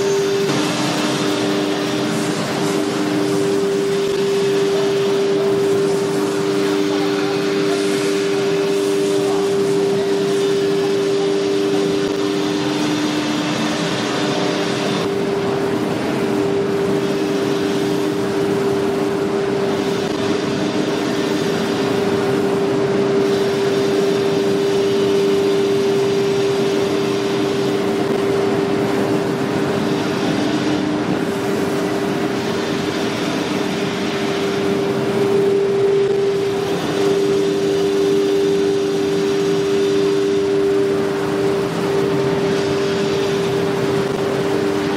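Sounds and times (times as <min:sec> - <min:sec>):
router spindle high whine: 0:00.0 - 0:44.9.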